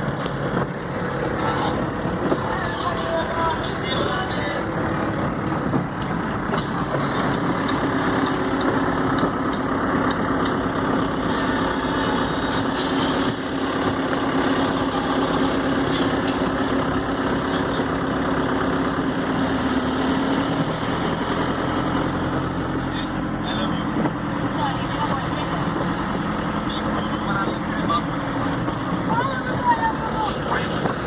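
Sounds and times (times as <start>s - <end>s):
vehicle engine humming: 0.0s - 31.0s.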